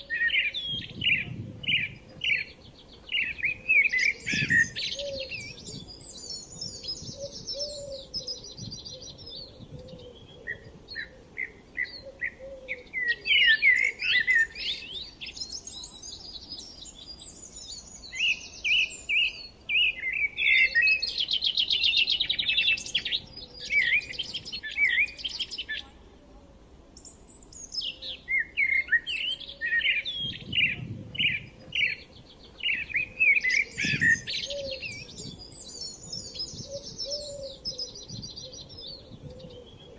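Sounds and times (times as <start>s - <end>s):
songbirds chirping and singing: 0.0s - 26.2s, 26.9s - 39.9s.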